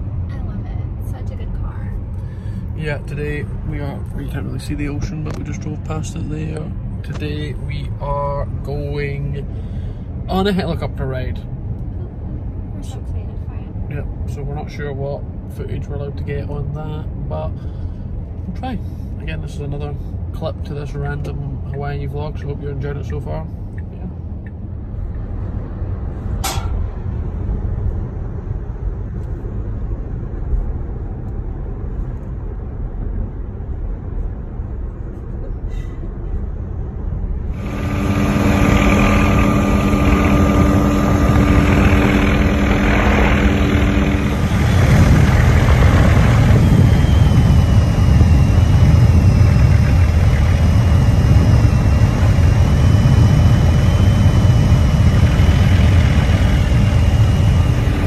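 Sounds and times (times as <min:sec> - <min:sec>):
helicopter engine and rotor noise: 0:00.0 - 0:29.7, 0:35.4 - 0:58.0.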